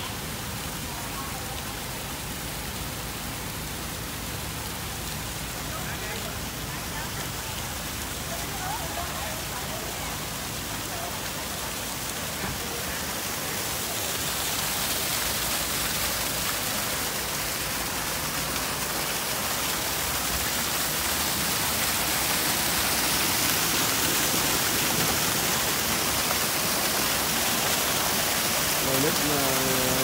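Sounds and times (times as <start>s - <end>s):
water pouring down waterfall: 0.0s - 30.0s.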